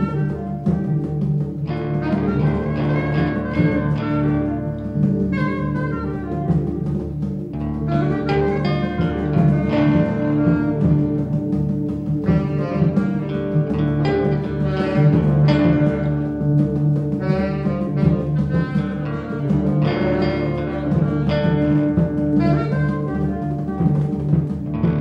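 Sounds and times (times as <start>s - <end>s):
electric guitar sustained tones: 0.0s - 25.0s
reed instrument wavering notes: 0.0s - 25.0s.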